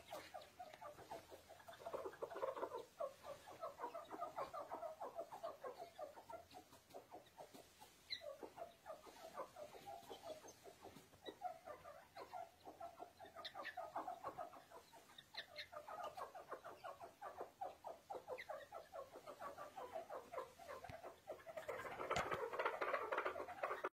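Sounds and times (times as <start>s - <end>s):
chicks peeping: 0.0s - 23.9s.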